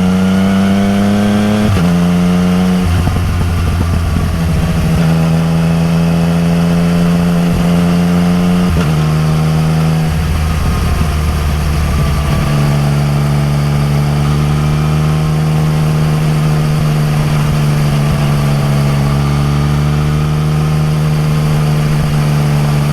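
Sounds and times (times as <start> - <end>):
motorcycle engine at road speed: 0.0 - 22.9.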